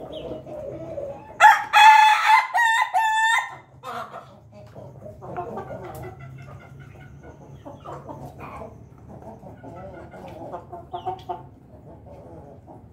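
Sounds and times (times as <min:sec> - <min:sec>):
rooster clucking: 0:00.0 - 0:12.9.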